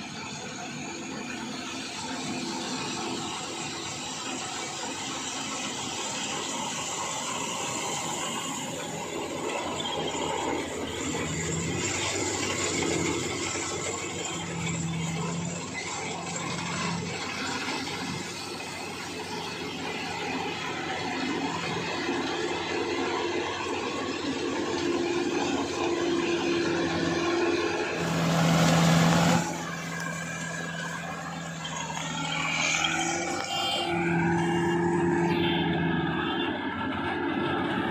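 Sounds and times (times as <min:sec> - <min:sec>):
harvesting machine engine humming: 0:00.0 - 0:37.9.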